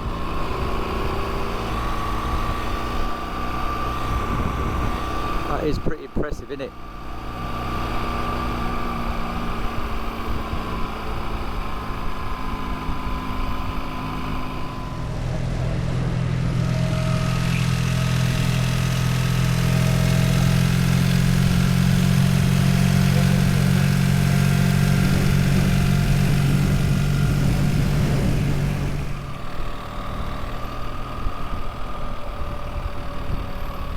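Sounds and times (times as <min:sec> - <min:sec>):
motorcycle engine running: 0:00.0 - 0:05.8, 0:06.7 - 0:33.9.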